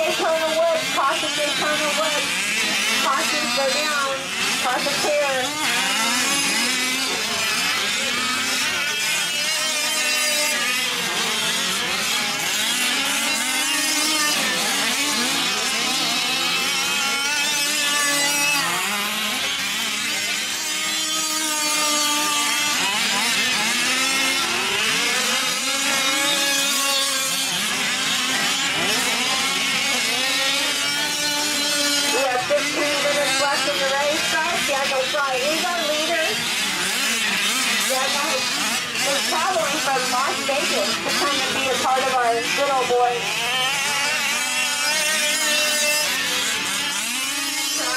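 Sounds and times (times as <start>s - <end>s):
small two-stroke engines revving: 0.0s - 47.9s.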